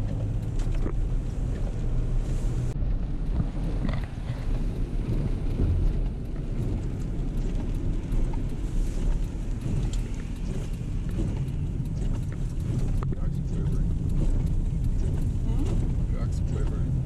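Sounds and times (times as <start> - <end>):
car engine and tyres rumbling: 0.0 - 17.0
rain ticking on windshield: 0.0 - 17.0.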